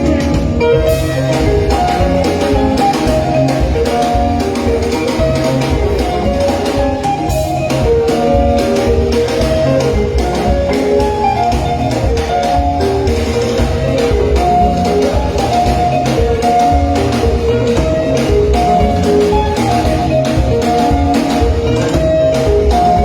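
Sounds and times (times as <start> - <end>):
bass guitar: 0.0 - 23.0
drum kit beat: 0.0 - 23.0
electric guitar lines: 0.0 - 23.0.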